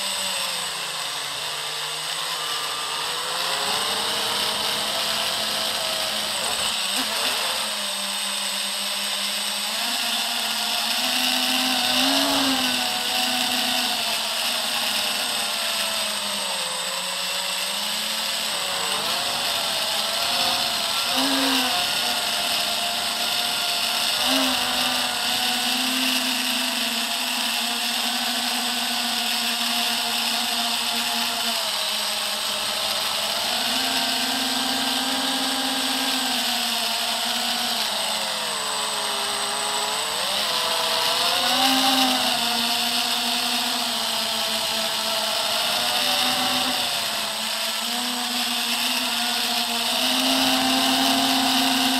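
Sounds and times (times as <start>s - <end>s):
drone motors whining: 0.0s - 51.9s.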